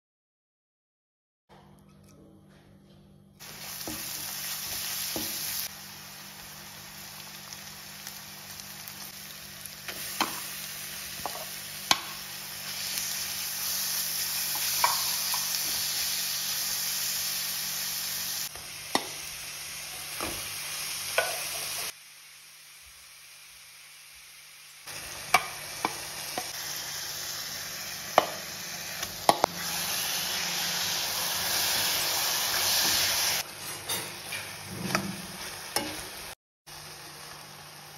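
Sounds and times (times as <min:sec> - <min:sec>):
food sizzling in hot oil: 0:03.4 - 0:37.9.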